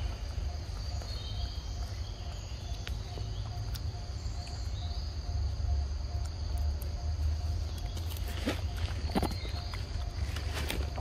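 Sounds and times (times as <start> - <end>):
bird chirps: 0.0 - 11.0
insects droning: 0.0 - 11.0.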